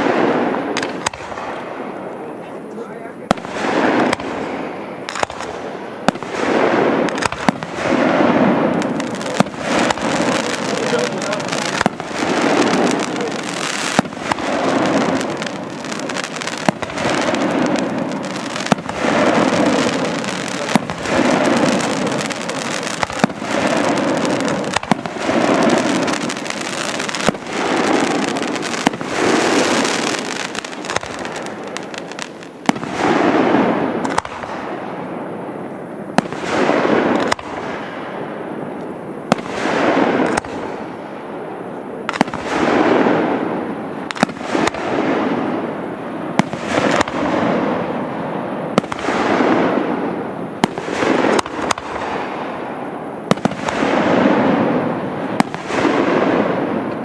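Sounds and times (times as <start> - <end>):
small firework cracks: 0.0 - 2.3, 3.3 - 34.8, 36.2 - 41.1, 42.0 - 57.0
fireworks bangs: 0.0 - 57.0.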